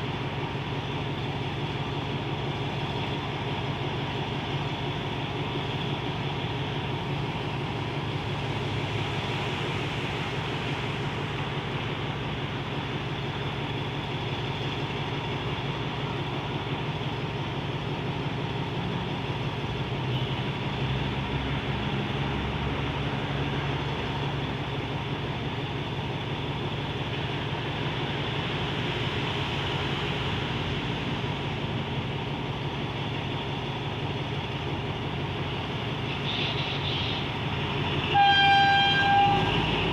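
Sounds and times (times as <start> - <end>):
diesel locomotive idling: 0.0 - 39.9.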